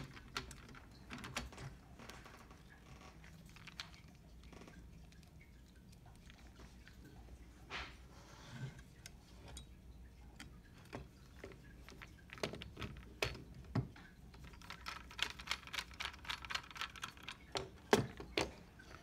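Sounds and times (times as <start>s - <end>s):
clicks and rattles of plastic parts: 0.0s - 6.8s, 10.3s - 19.0s.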